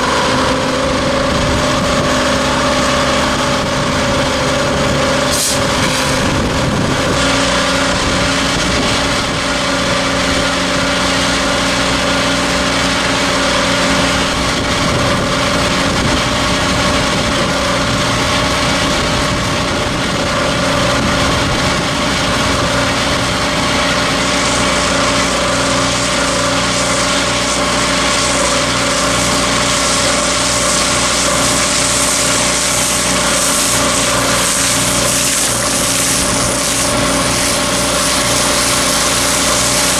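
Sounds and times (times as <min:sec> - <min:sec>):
engine running: 0:00.0 - 0:39.9
slurry spraying from hose: 0:00.0 - 0:39.9.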